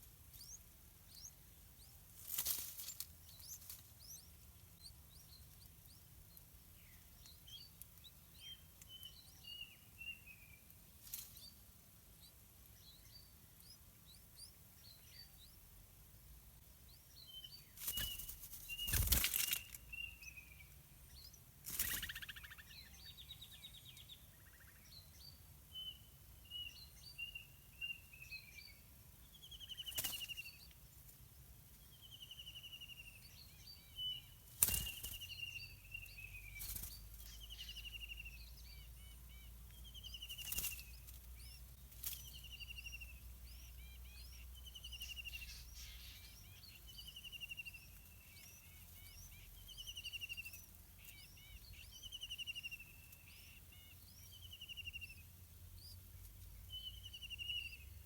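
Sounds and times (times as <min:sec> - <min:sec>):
small high bird chirps: 0:00.0 - 0:15.8, 0:16.6 - 0:58.0.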